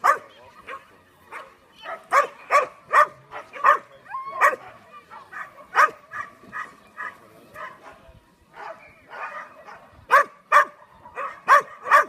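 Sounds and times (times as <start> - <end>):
dog barking: 0.0 - 8.0, 8.6 - 12.0.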